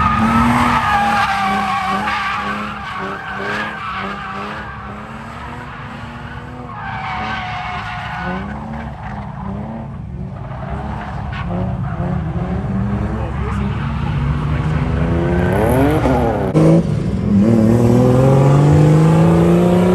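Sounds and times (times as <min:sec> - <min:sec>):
tires squealing: 0:00.0 - 0:16.8
car engine revving: 0:00.0 - 0:19.9.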